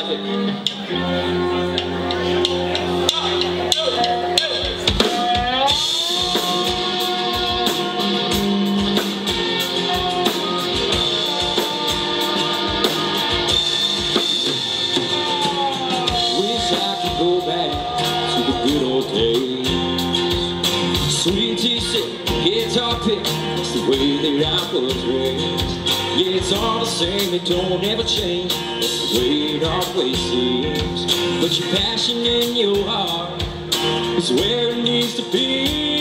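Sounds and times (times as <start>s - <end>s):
live band playing: 0.0s - 36.0s
sliding guitar lead notes: 0.0s - 36.0s.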